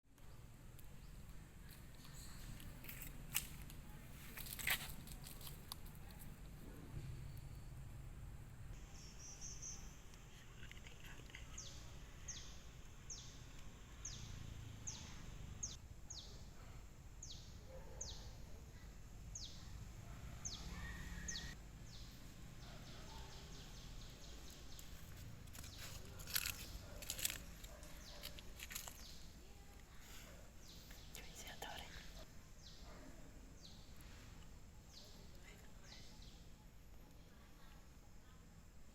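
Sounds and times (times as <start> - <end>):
faint low outdoor rumble: 0.1 - 38.9.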